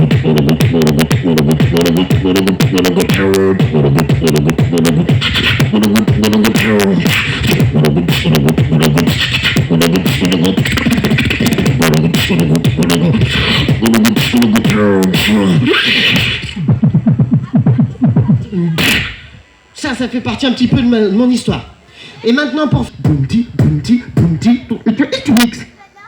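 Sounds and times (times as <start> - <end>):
vocal percussion clicks and hits: 0.0 - 19.4, 22.8 - 25.6
vocal bass line: 0.0 - 25.8.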